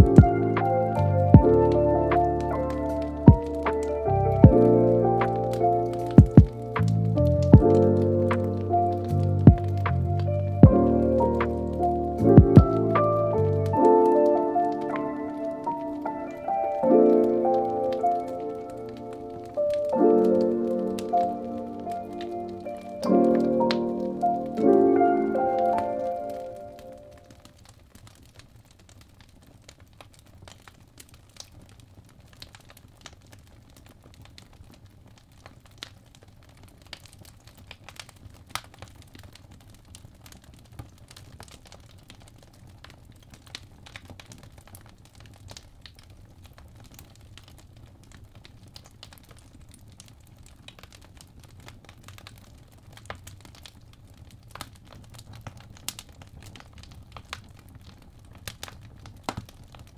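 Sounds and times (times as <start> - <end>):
low hum of fire: 0.0 - 16.1, 25.6 - 59.9
burning wood crackling: 0.0 - 59.9.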